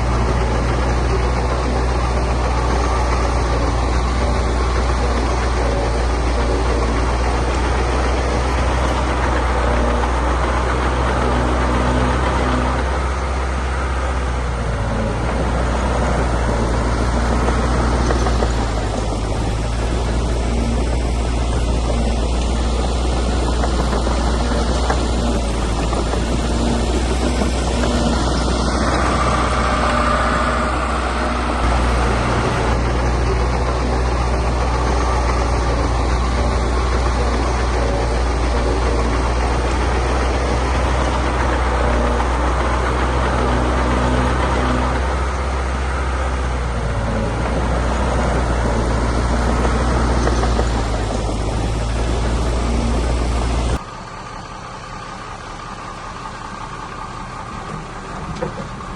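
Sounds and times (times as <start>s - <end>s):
diesel engine of heavy machinery: 0.0s - 58.9s.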